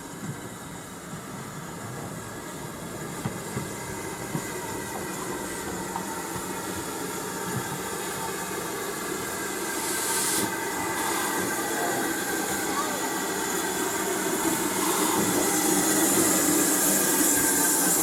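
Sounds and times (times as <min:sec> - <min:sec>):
train running on track: 0:00.0 - 0:18.0.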